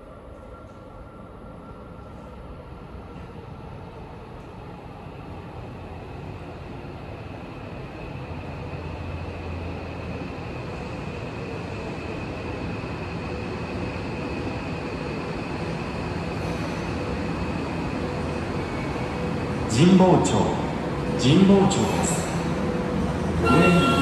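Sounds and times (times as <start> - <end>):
electric train rumbling in tunnel: 0.0 - 24.0.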